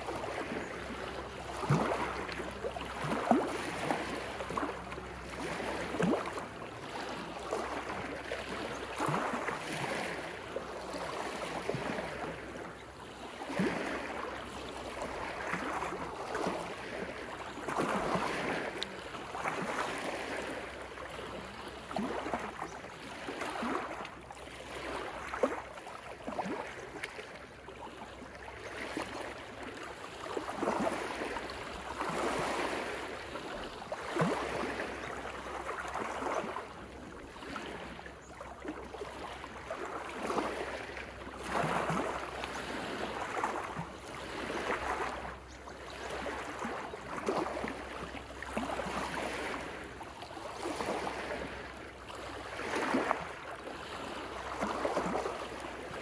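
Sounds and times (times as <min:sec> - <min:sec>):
small waves washing over rocky shore: 0:00.0 - 0:56.0.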